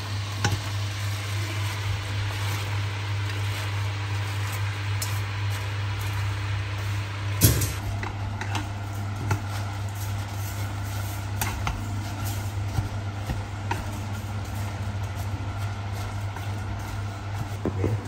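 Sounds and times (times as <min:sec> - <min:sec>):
greens hissing in a pan: 0:00.0 - 0:18.0.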